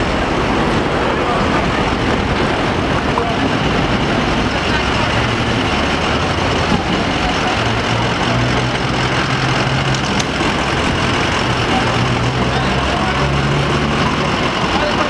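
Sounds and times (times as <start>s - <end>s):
ambulance engine idling: 0.0s - 15.0s
street traffic: 0.0s - 15.0s.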